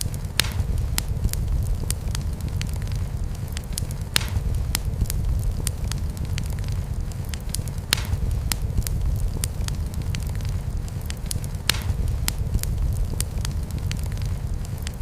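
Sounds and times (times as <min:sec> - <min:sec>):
wood fire crackling: 0:00.0 - 0:15.0
low rumble: 0:00.3 - 0:11.1, 0:11.7 - 0:14.8.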